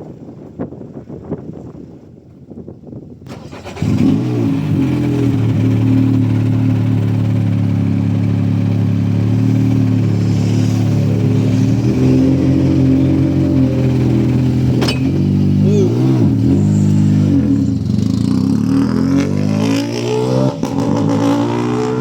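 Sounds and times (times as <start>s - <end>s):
rally car engine at high revs: 3.3s - 22.0s.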